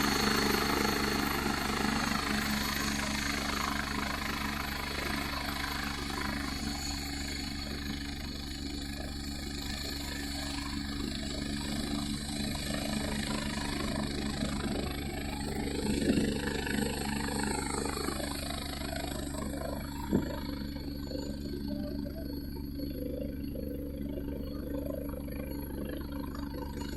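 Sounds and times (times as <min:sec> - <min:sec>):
helicopter engine and rotor drone: 0:00.0 - 0:26.9
high whine: 0:00.0 - 0:26.9.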